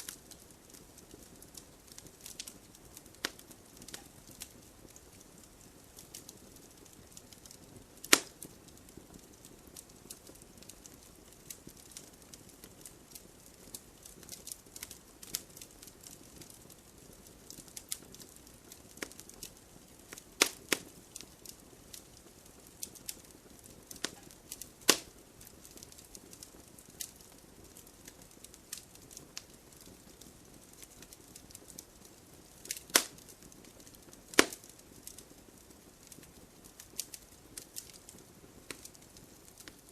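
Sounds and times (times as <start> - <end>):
sharp pops from burning logs: 0.0 - 39.9
wood fire crackling: 0.0 - 39.9.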